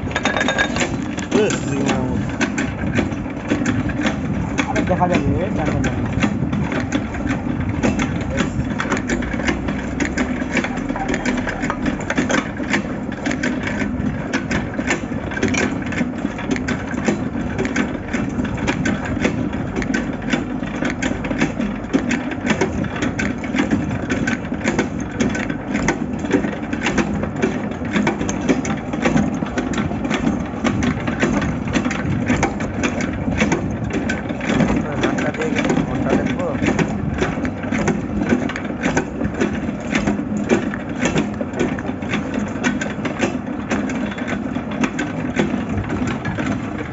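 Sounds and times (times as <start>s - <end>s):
workshop machine humming: 0.0s - 46.9s.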